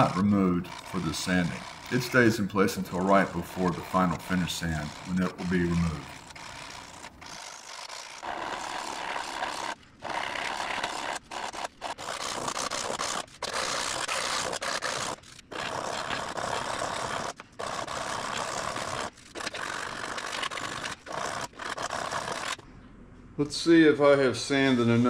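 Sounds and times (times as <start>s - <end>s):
sandpaper scraping back and forth: 0.0s - 22.6s.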